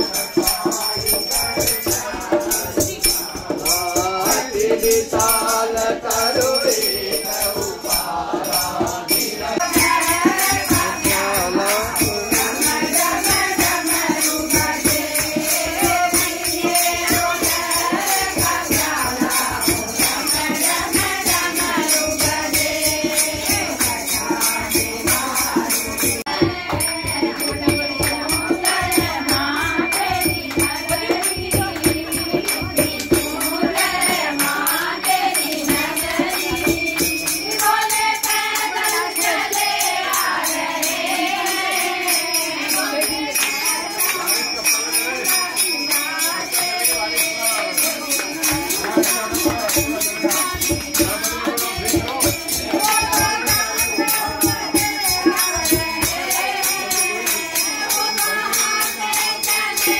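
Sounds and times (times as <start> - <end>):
group singing in unison: 0.0 - 59.9
steady percussion beat: 0.0 - 59.9.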